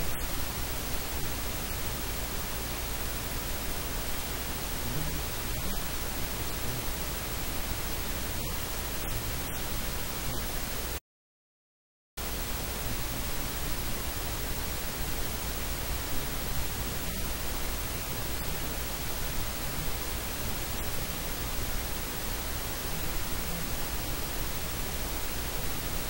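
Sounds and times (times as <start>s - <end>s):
static hiss: 0.0s - 11.0s, 12.2s - 26.0s.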